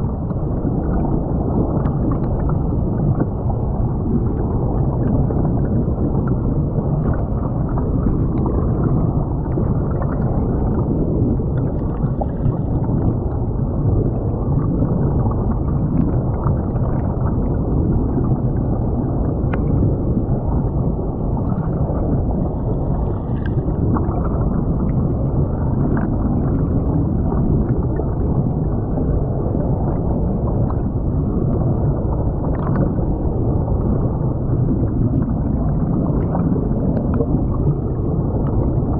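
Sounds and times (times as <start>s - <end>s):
muffled underwater stream rumble: 0.0s - 38.9s.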